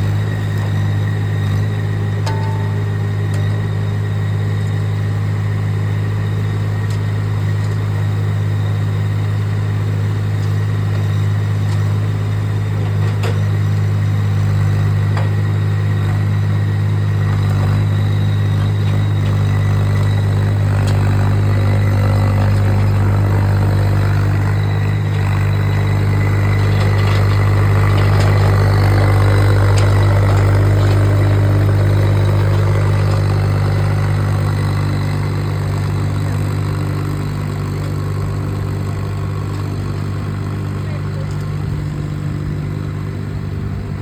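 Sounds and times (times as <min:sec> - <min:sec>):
machinery engine droning: 0:00.0 - 0:44.0.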